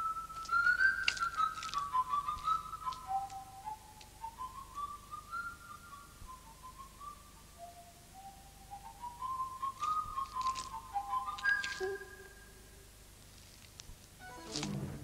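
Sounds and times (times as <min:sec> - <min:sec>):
person whistling a tune: 0:00.0 - 0:12.4.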